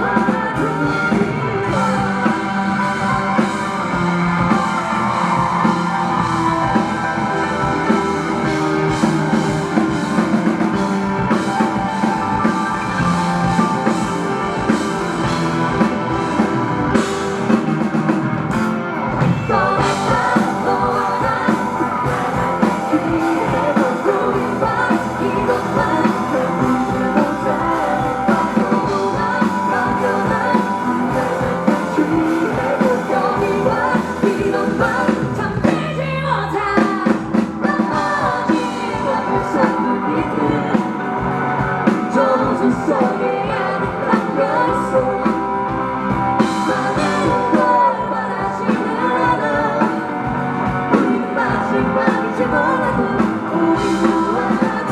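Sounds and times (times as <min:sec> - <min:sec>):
live rock band playing: 0:00.0 - 0:54.9
person singing lead vocals: 0:00.0 - 0:54.9.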